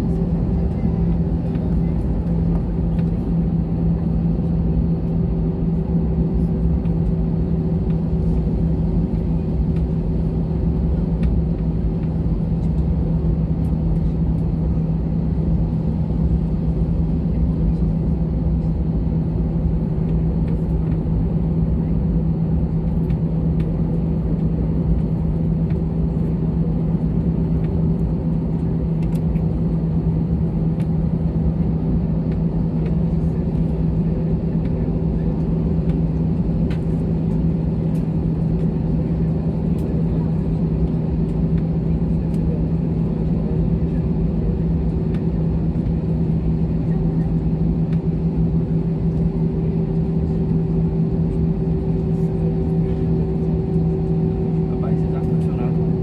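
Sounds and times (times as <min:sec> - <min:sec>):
jet engines humming in cabin: 0:00.0 - 0:56.0.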